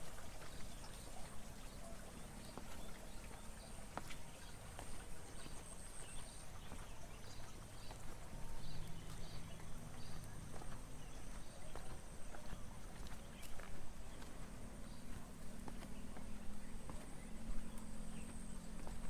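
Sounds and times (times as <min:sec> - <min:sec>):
footsteps on a path: 0:00.0 - 0:19.0.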